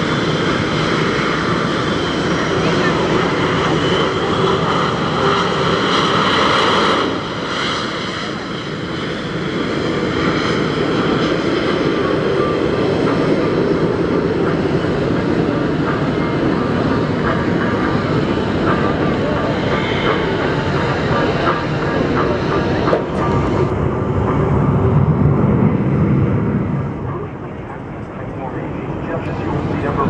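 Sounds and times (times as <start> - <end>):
jet engines taxiing: 0.0 - 30.0.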